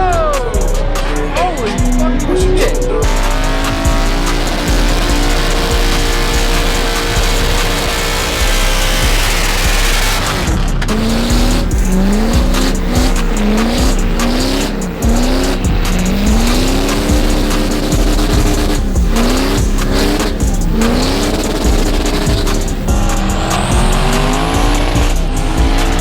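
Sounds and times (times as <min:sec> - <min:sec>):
diesel engine revving: 0:00.0 - 0:26.0.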